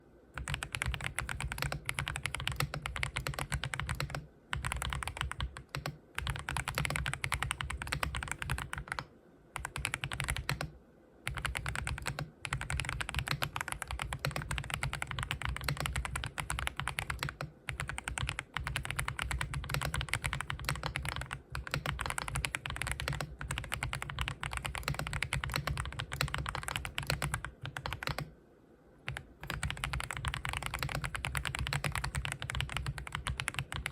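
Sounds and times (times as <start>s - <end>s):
mechanical keyboard typing: 0.4s - 28.3s, 29.1s - 33.9s.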